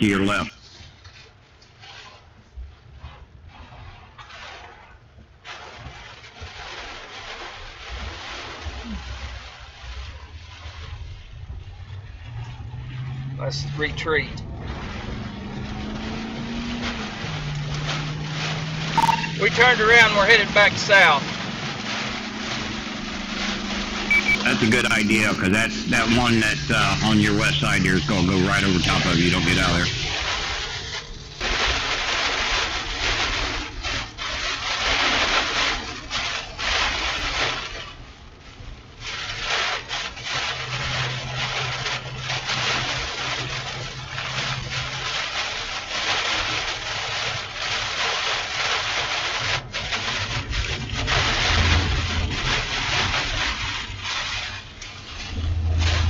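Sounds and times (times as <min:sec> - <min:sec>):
storm wind buffeting vehicle: 0:00.7 - 0:56.0.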